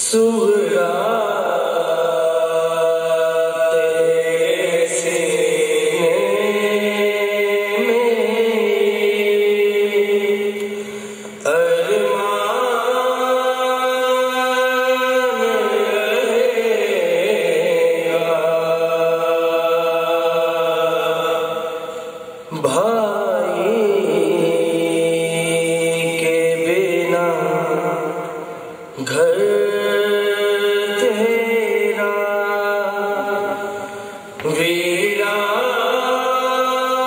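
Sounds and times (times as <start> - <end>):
men chanting a lament: 0.1 - 10.8, 11.4 - 28.3, 29.0 - 37.0.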